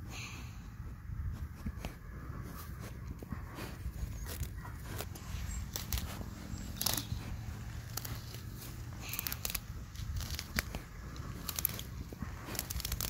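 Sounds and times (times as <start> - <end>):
sheep tearing grass bites: 1.3 - 13.0.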